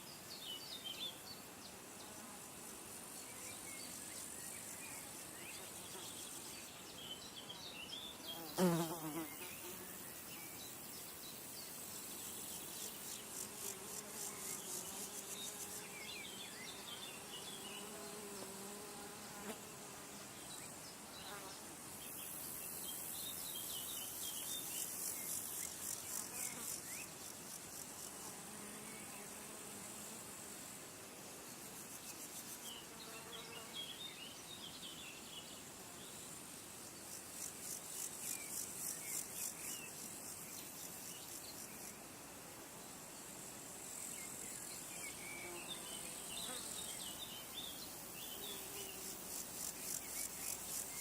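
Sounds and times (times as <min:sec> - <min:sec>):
insects buzzing and trilling: 0:00.0 - 0:51.0.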